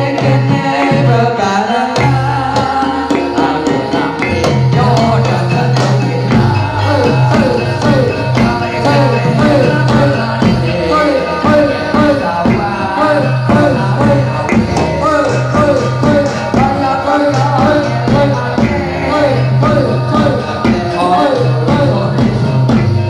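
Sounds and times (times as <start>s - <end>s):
fast drum rhythm: 0.0s - 23.0s.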